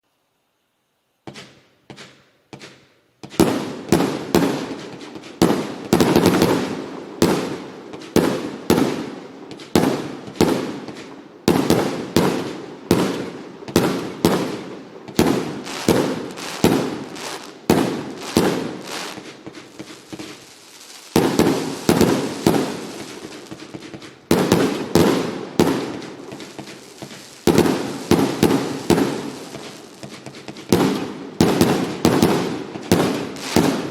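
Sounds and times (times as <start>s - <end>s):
fireworks bangs: 1.3s - 33.9s
fireworks hissing: 3.2s - 33.9s.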